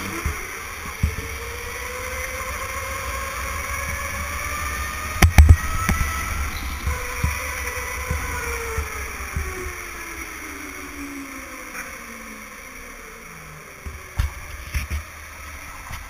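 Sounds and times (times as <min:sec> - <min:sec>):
electric motor whine: 0:00.0 - 0:16.0
kart rumbling on track: 0:00.0 - 0:16.0.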